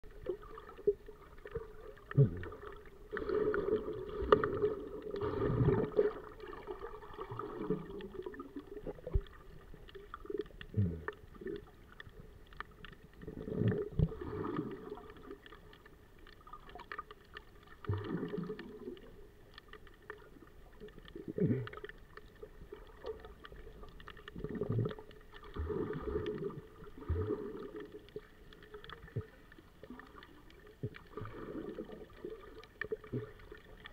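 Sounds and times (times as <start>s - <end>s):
muffled underwater sloshing: 0.0s - 33.9s.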